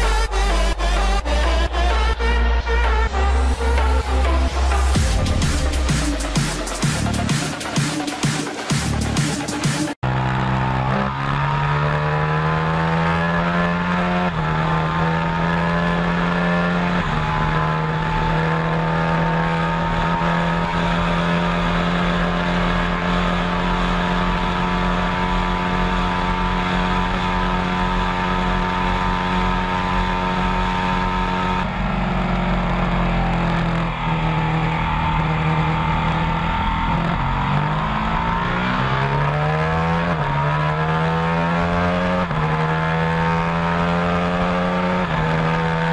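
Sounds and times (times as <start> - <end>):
vehicle engine revving high: 0.0 - 45.9.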